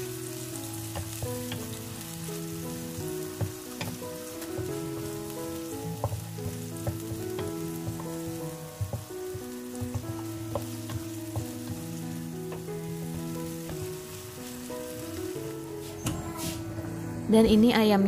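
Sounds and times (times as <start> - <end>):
spice paste sizzling in a frying pan: 0.0 - 16.6
slow background music: 0.0 - 18.0.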